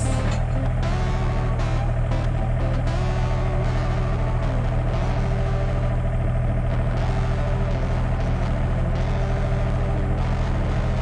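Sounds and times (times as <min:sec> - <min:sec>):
diesel engine running: 0:00.0 - 0:11.0
hydraulic whine: 0:00.0 - 0:11.0.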